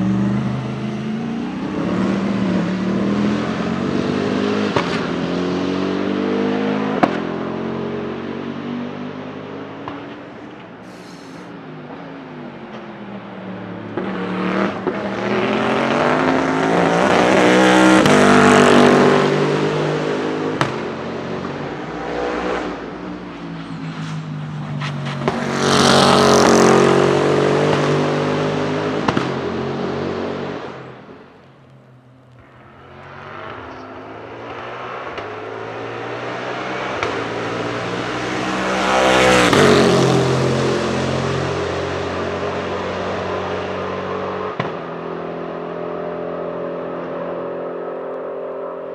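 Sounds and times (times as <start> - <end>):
race car accelerating past: 0.0 - 10.2, 13.2 - 31.1, 32.6 - 48.9.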